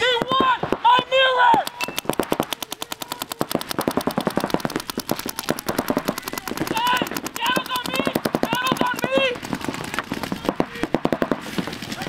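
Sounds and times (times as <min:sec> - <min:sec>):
paintball markers firing rapidly: 0:00.0 - 0:12.0.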